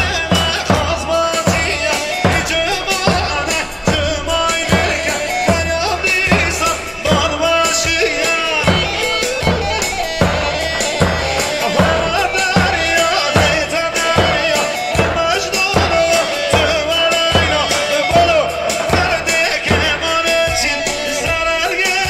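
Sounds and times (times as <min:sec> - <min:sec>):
bass drum beating dance rhythm: 0:00.0 - 0:22.0
wavering high melody: 0:01.4 - 0:22.0.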